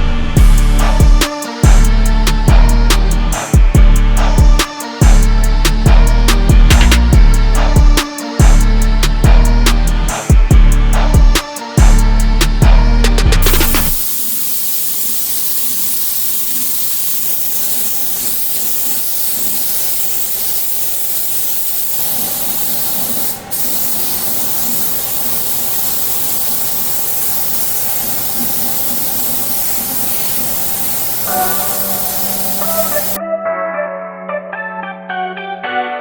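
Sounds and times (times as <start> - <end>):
compressed air spray hissing: 0.4 - 33.2.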